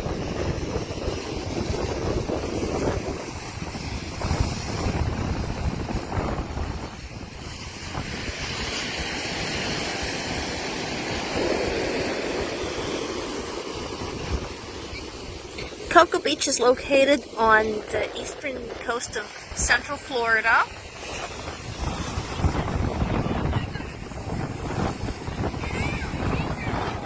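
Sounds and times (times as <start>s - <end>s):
breaking surf: 0.0s - 27.0s
wind buffeting microphone: 0.0s - 27.0s.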